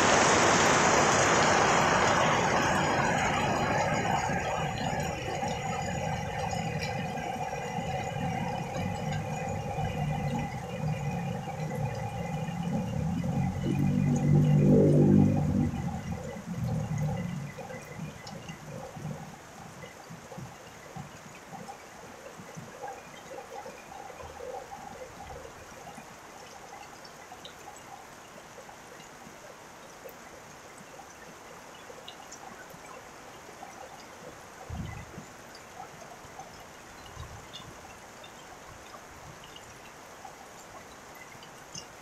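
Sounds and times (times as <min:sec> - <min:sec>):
steady rain: 0:00.0 - 0:42.0
trickling water: 0:00.0 - 0:42.0.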